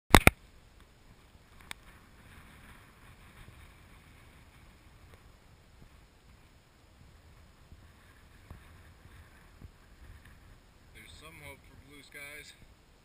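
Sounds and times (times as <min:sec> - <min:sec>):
faint wind: 0:00.1 - 0:13.0
rolling on dirt trail: 0:00.1 - 0:13.0.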